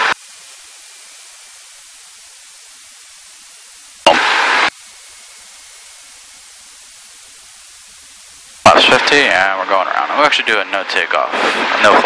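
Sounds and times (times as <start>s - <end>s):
burst of rushing static: 0.0s - 12.0s
intercom hiss: 0.0s - 12.0s.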